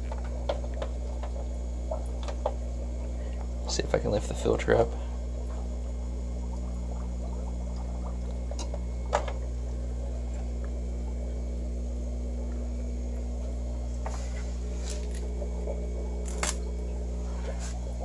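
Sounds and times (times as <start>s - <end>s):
aquarium equipment hum: 0.0s - 18.0s.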